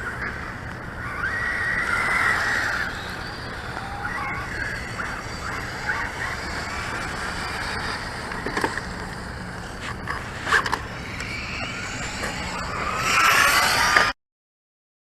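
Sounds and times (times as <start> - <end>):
toy car motor whine: 1.0 - 14.2.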